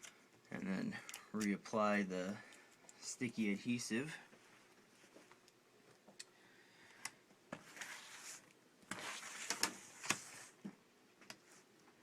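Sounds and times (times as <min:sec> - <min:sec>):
crackly rustling of tape: 0:00.0 - 0:12.0.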